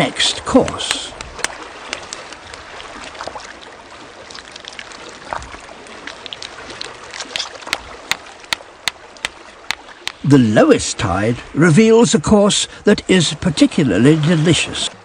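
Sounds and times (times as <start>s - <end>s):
seawater trickling and lapping: 0.0s - 15.0s.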